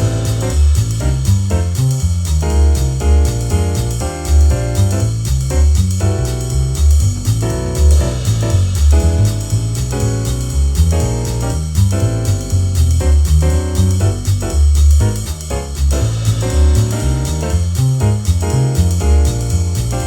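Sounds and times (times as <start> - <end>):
bass line: 0.0 - 20.0
piano chord comping: 0.0 - 20.0.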